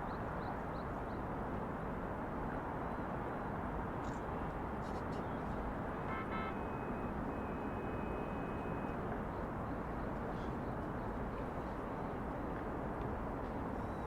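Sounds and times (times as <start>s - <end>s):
distant traffic: 2.5s - 14.0s.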